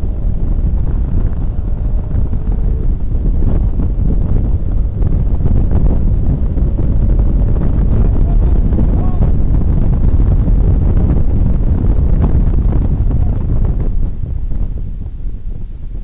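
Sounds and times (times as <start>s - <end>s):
car road and engine noise: 0.0s - 16.0s
wind buffeting microphone: 0.0s - 16.0s.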